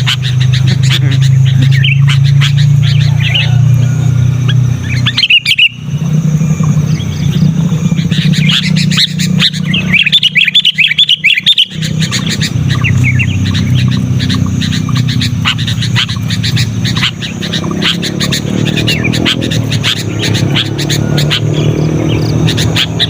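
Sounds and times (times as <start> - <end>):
bird chattering chirps: 0.0 - 23.0
steady low hum: 0.0 - 23.0.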